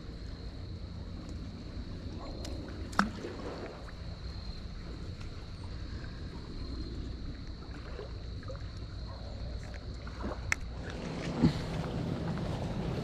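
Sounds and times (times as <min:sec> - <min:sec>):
water lapping: 0:00.0 - 0:13.0.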